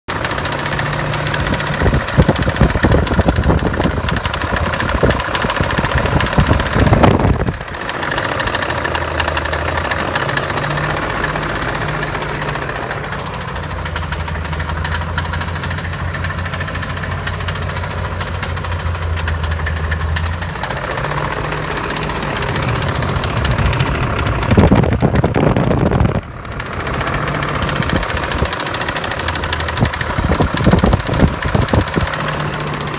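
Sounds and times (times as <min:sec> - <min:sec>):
car engine running: 0:00.0 - 0:32.9
fast steady clicking: 0:00.1 - 0:32.9.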